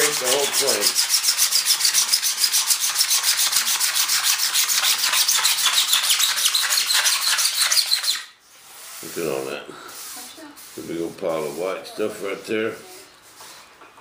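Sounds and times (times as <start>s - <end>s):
razor blade scraping fiberglass: 0.0s - 13.7s.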